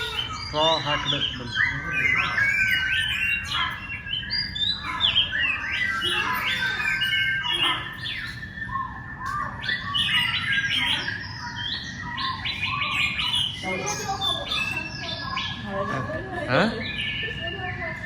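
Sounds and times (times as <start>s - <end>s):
bird calls: 0.0s - 18.0s
steady high whistling tone: 0.0s - 18.0s.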